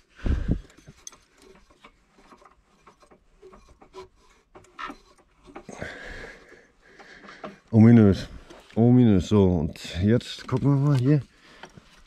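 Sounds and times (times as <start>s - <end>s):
faint mechanical clicks and rubbing: 0.0s - 12.0s.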